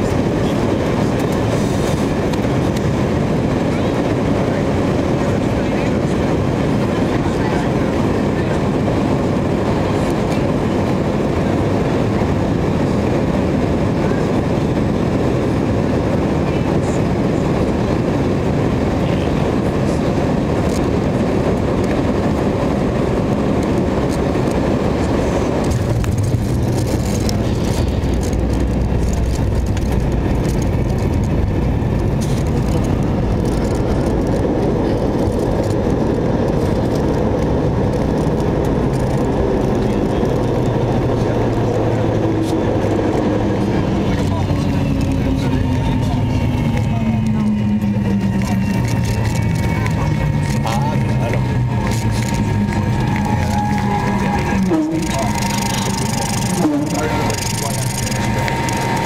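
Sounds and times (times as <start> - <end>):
deep rumble with bumps: 0.0 - 59.0
jet engines roaring: 0.0 - 59.0
rushing air: 0.0 - 59.0.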